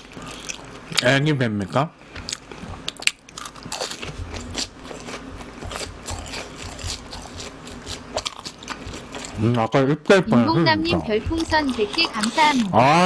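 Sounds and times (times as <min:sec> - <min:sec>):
crunching chewing: 0:00.0 - 0:01.1, 0:02.1 - 0:09.8, 0:11.3 - 0:13.0.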